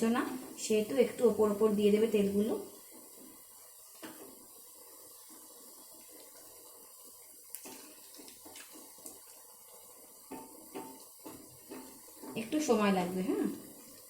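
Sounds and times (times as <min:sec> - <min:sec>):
oil sizzling with pops: 0:00.0 - 0:14.0.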